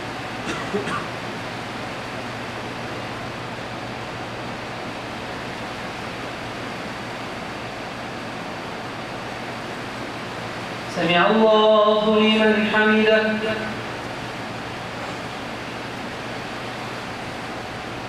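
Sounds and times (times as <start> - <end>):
low even hum: 0.0 - 18.0.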